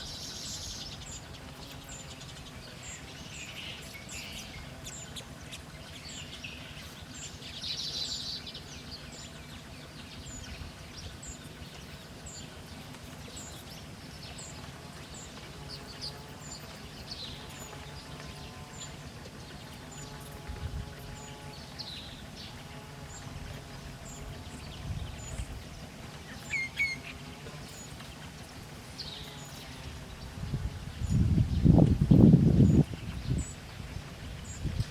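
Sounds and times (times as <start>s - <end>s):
bird calls: 0.0s - 34.9s
birds chirping: 0.0s - 34.9s.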